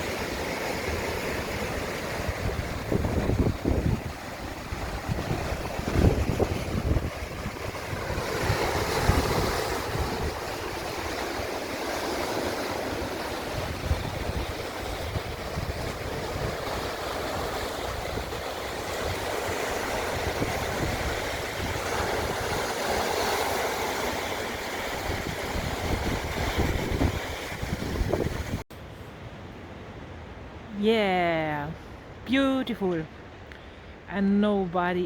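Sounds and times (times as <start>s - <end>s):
wind gusting on microphone: 0.0s - 29.4s
sea waves breaking on shore: 0.0s - 34.1s.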